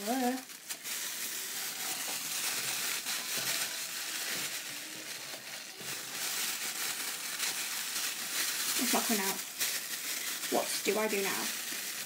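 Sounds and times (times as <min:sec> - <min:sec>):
bag of ice crinkling: 0:00.0 - 0:12.0.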